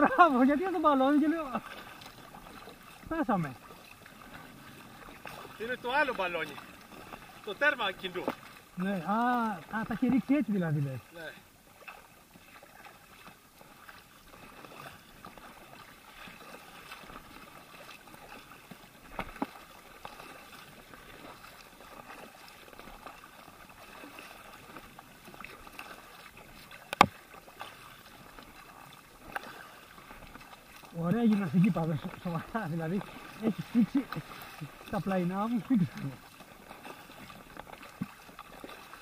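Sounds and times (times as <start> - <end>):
paddles splashing in water: 0.0 - 39.0.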